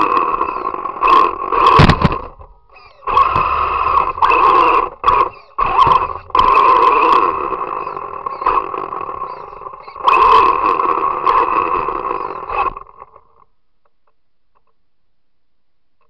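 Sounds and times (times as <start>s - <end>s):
rc car motor whining: 0.0s - 13.4s.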